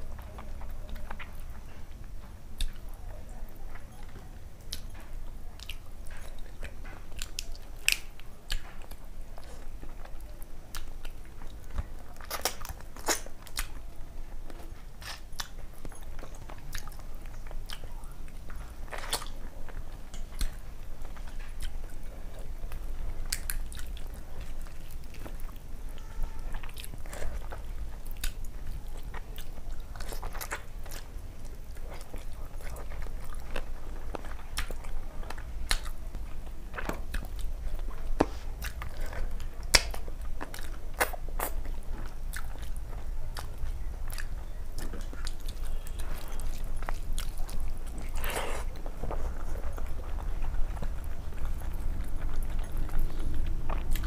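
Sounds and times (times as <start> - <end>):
person chewing with wet smacks: 0.0 - 54.0
steady low hum: 0.0 - 54.0.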